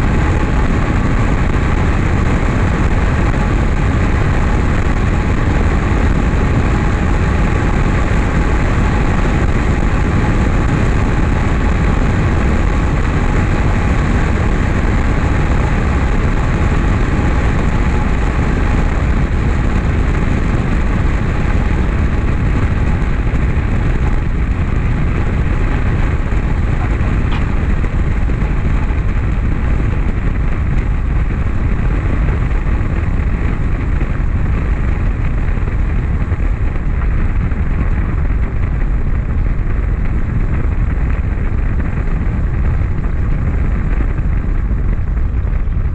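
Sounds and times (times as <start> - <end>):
airplane piston engine and propeller: 0.0 - 45.9
wind rushing past camera: 0.0 - 45.9.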